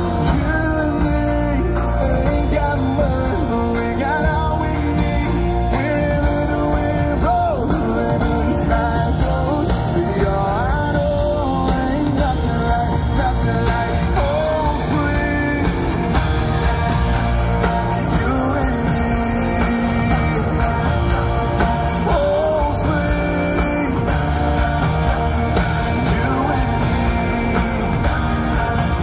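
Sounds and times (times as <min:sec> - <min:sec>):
live country pop band: 0:00.0 - 0:29.0
man singing: 0:00.0 - 0:29.0.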